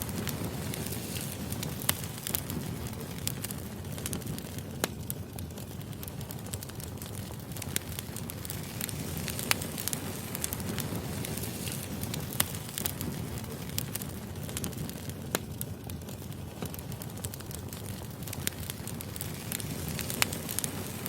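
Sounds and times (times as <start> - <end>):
fire low rumble: 0.0 - 21.0
firewood crackling and popping: 0.0 - 21.0.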